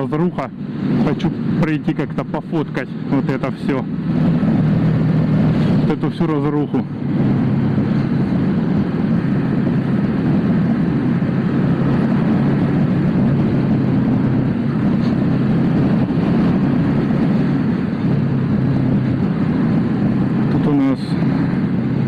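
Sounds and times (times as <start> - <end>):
motorcycle engine drone: 0.0 - 22.0
road and wind noise: 0.0 - 22.0.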